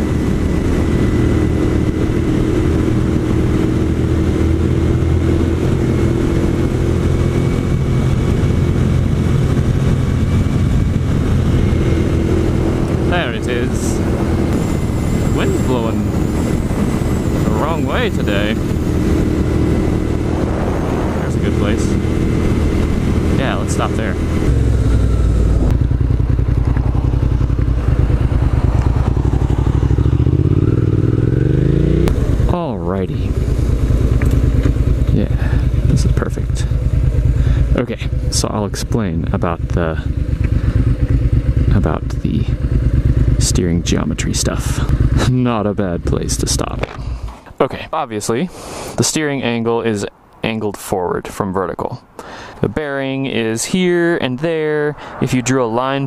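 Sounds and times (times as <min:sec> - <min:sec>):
motorcycle engine cruising: 0:00.0 - 0:48.3
wind and road noise: 0:00.0 - 0:56.0.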